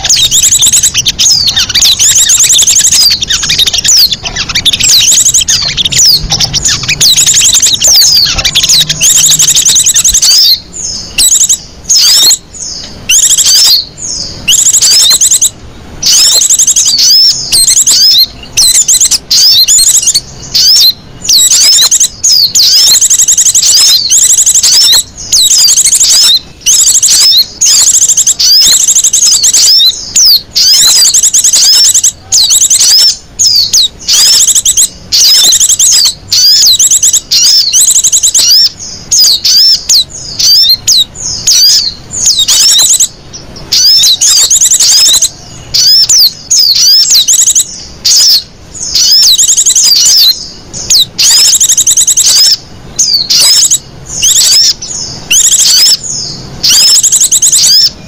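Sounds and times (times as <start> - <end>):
songbird chirps: 0.0 - 58.0.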